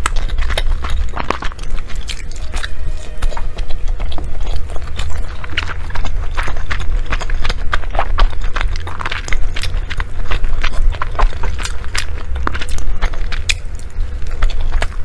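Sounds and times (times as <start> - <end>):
low rumble: 0.0 - 15.0
wet chewing: 0.0 - 15.0.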